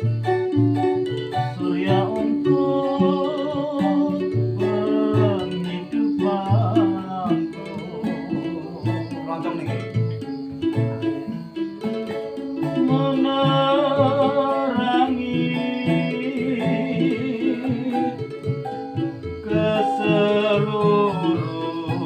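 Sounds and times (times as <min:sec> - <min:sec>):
plucked bass line: 0:00.0 - 0:22.0
plucked lutes and guitar rhythm: 0:00.0 - 0:22.0.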